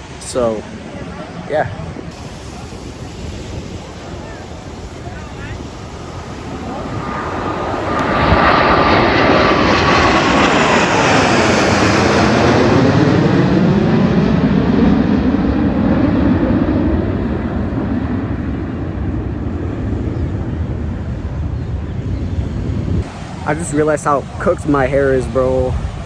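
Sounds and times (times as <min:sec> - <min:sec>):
jet aircraft flying past: 0:00.0 - 0:26.0
jet engine whine dropping in pitch: 0:00.0 - 0:26.0.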